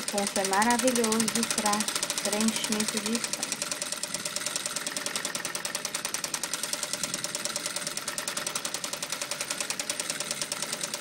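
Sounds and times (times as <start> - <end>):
sewing machine stitching: 0.0 - 11.0.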